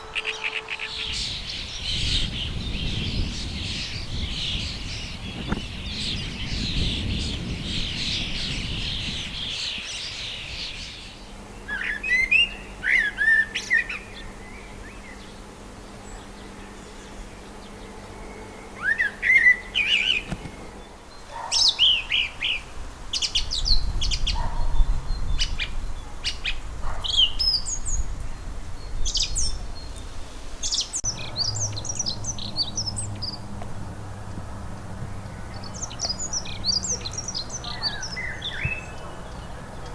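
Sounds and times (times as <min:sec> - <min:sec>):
high bird chatter: 0:00.0 - 0:39.9
songbirds singing and calling: 0:00.0 - 0:39.9.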